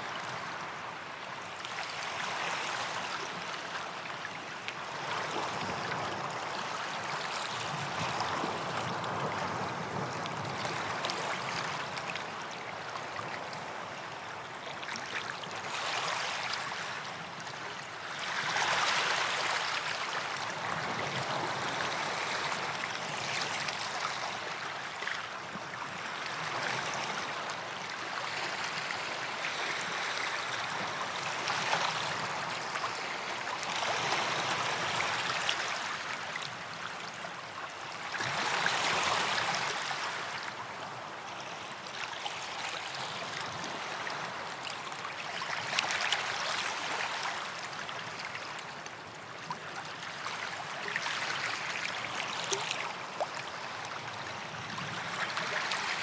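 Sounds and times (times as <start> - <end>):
small waves washing on sand: 0.0 - 56.0.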